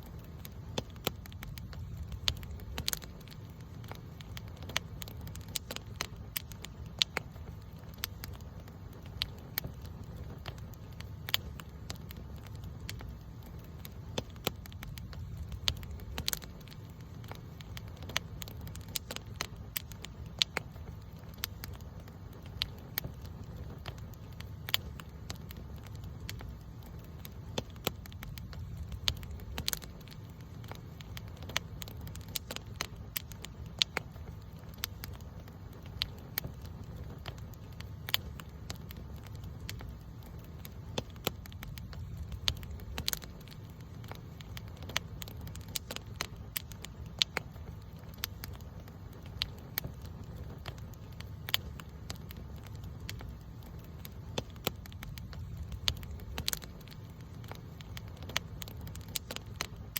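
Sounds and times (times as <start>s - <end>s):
fire crackling and popping: 0.0s - 59.9s
low rumble of flame: 0.0s - 59.9s.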